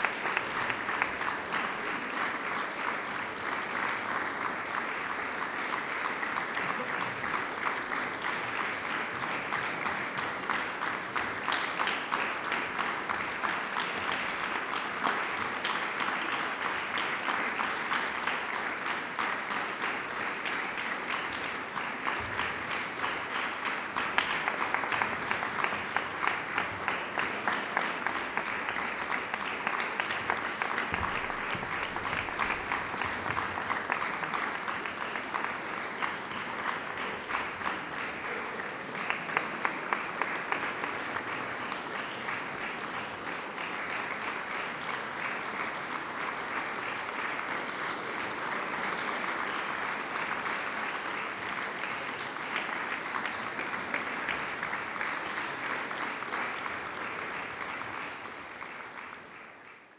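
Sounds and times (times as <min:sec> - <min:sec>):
audience applauding: 0:00.0 - 0:59.9
sharp claps: 0:00.0 - 0:59.9.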